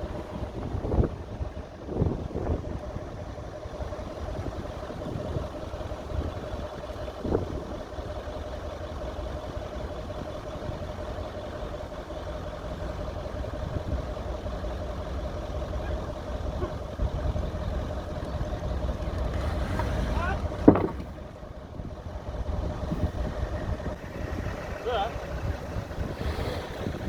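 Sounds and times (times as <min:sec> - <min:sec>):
suv engine rumbling: 0:00.0 - 0:27.0.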